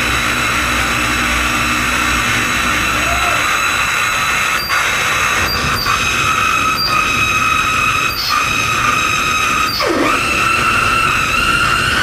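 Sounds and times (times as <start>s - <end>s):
harsh distorted noise music: 0.0s - 12.0s
high screeching tones: 0.4s - 12.0s.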